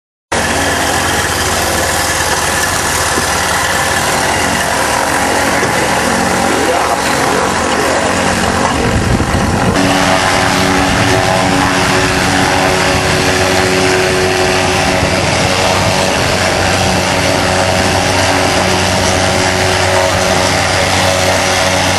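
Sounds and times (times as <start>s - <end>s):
aircraft engine and propeller running: 0.3s - 21.9s.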